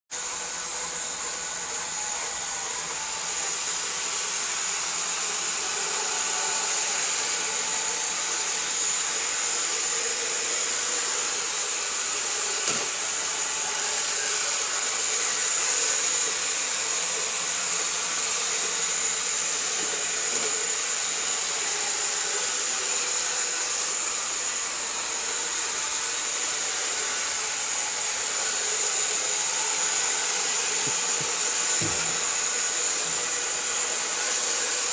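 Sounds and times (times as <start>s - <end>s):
robot vacuum whirring: 0.2s - 34.9s.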